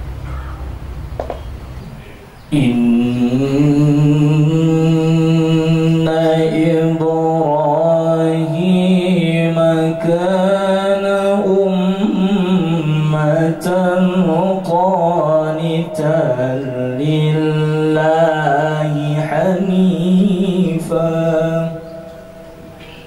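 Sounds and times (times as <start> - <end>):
man chanting into a microphone: 2.5 - 22.5.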